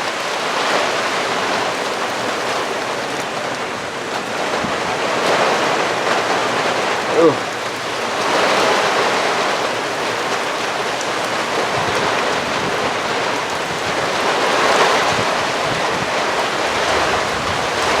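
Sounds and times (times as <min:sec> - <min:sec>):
rain: 0:00.0 - 0:18.0
wind: 0:00.0 - 0:18.0.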